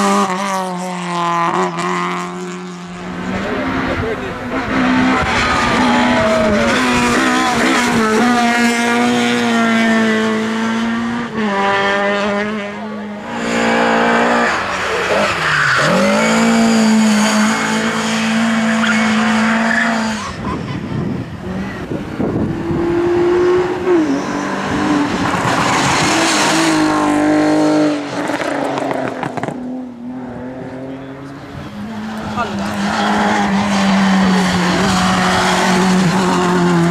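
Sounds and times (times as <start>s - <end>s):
race car engine at high revs: 0.0s - 36.9s.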